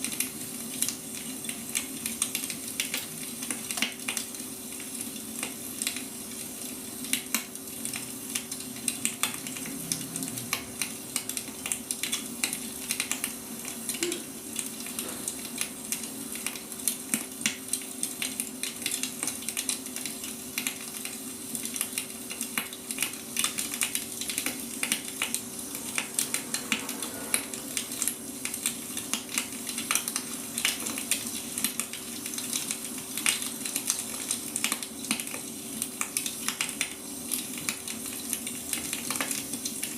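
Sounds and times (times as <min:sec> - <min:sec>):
wood fire crackling: 0:00.0 - 0:39.9
steady hiss: 0:03.4 - 0:39.9.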